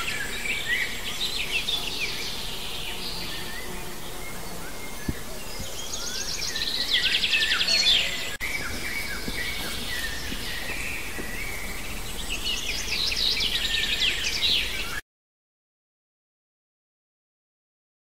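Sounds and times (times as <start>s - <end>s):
birds singing trilled phrases: 0.0s - 15.0s.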